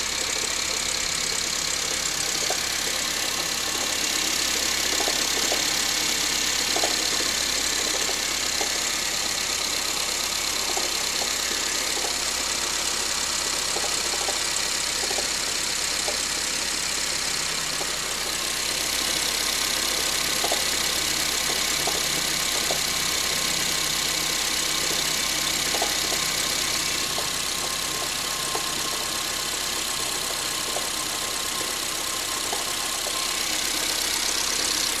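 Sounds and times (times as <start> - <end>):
car engine idling: 0.0 - 35.0
light irregular engine knock: 0.1 - 35.0.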